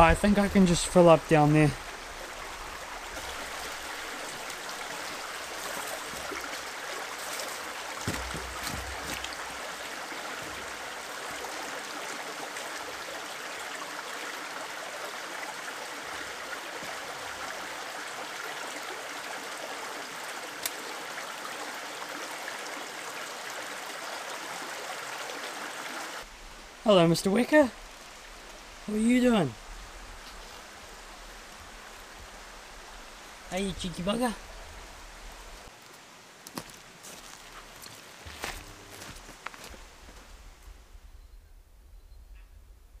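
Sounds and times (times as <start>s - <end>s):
stream running over stones: 0.0s - 40.8s.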